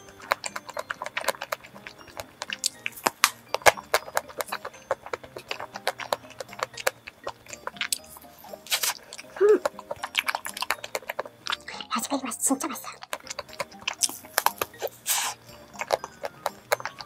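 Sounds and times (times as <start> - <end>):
chewing soft cake: 0.0 - 17.0.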